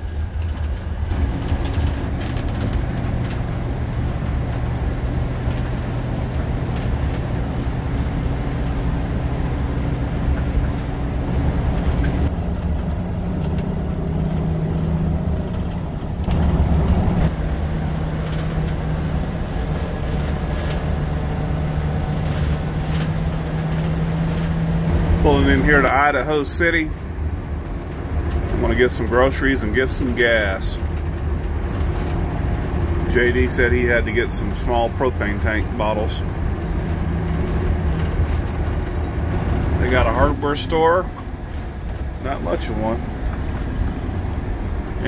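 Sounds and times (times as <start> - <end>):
motorhome engine hum: 0.0 - 45.0
road noise: 0.0 - 45.0.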